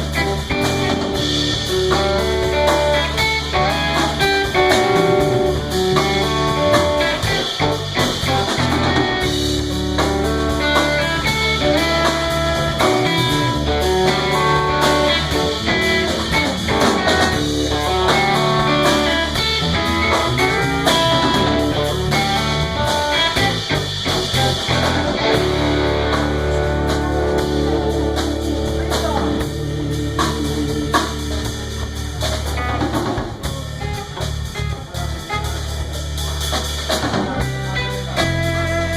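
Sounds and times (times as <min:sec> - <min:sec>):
bass notes: 0:00.0 - 0:38.9
blues guitar lines: 0:00.0 - 0:38.9
drum kit: 0:00.0 - 0:38.9.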